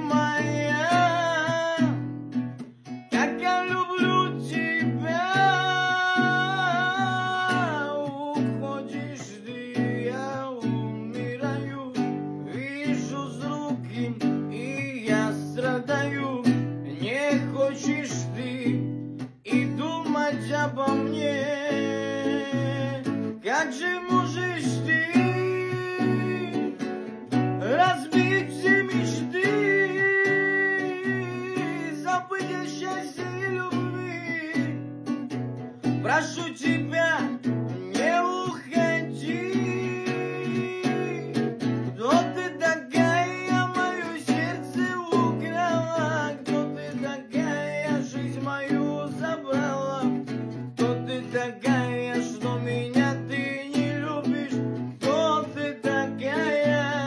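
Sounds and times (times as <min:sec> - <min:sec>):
guitar melody with bent notes: 0:00.0 - 0:57.0.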